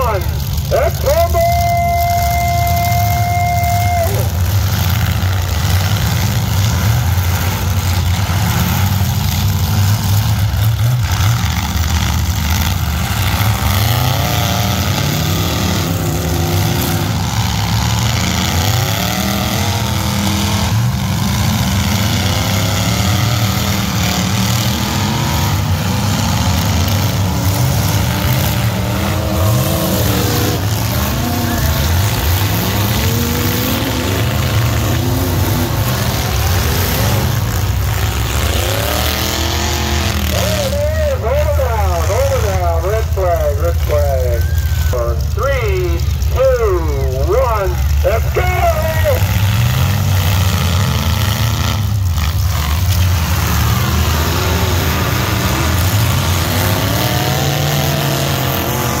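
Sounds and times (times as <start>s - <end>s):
truck engines revving: 0.0s - 59.0s
trucks colliding: 0.0s - 59.0s.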